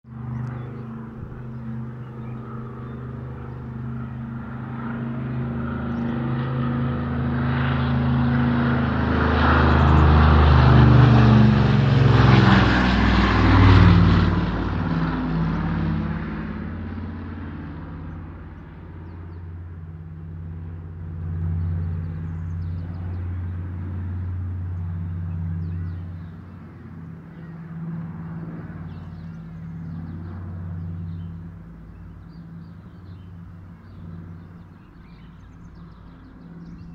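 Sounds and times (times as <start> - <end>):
propeller plane engines droning: 0.0 - 36.9.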